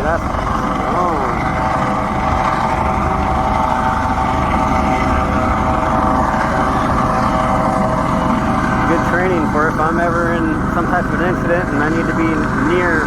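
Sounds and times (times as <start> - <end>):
helicopter engine and rotor: 0.0 - 13.0
wind buffeting microphone: 0.0 - 13.0.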